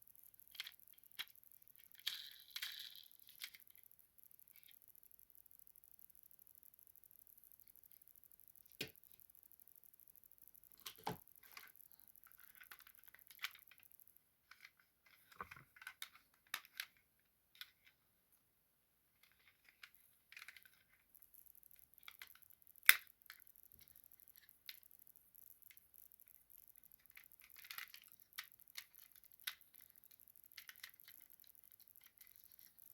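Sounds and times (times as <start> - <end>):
toy cars clicking and tapping: 0.0 - 18.0, 19.2 - 32.9.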